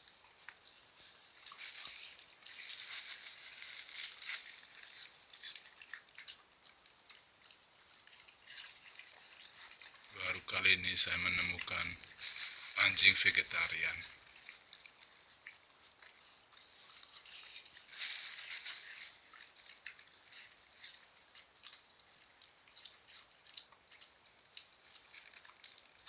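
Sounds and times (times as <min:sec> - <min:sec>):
dog chewing watermelon: 0:00.0 - 0:26.0.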